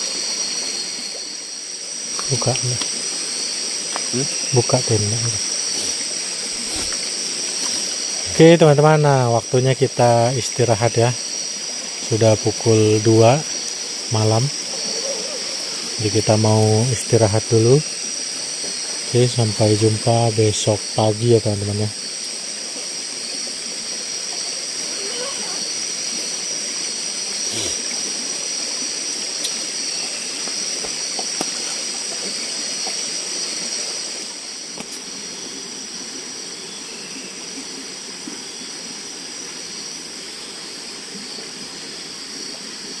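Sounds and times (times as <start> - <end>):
soft even hiss: 0.0 - 42.8
insects shrilling: 0.0 - 43.0.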